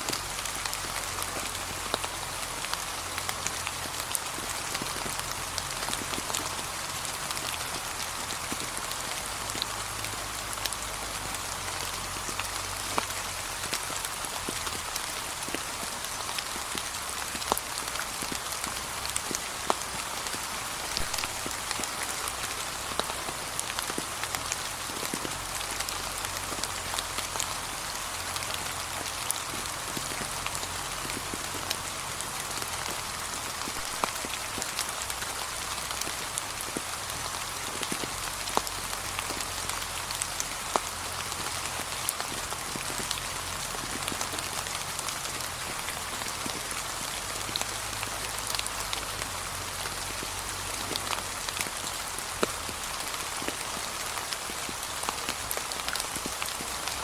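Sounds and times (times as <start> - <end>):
rain on fallen leaves: 0.0 - 57.0.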